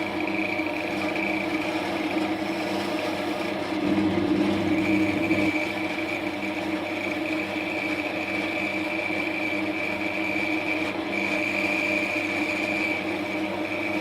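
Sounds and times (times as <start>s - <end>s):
motor hum: 0.0s - 14.0s
wood lathe whining: 0.0s - 14.0s.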